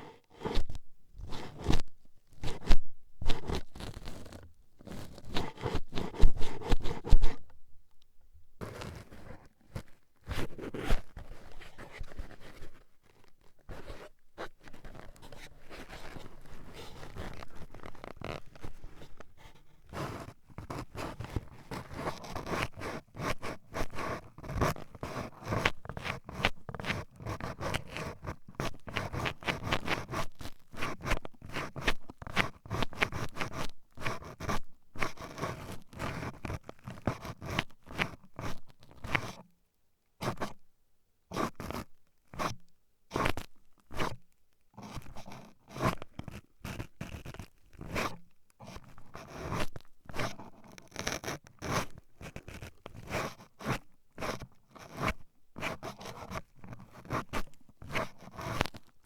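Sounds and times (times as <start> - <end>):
toothpicks scratching a microphone: 0.0 - 7.6, 8.6 - 39.5, 40.2 - 40.6, 41.3 - 44.2, 44.8 - 59.0.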